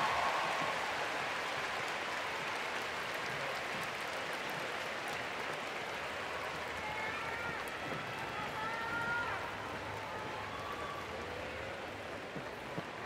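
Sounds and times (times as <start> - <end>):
large crowd applauding: 0.0 - 13.0.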